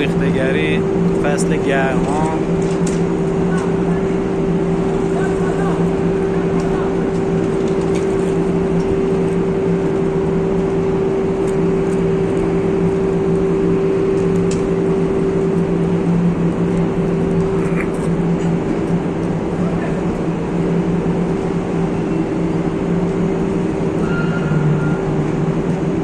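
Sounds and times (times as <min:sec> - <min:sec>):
furnace humming: 0:00.0 - 0:26.0.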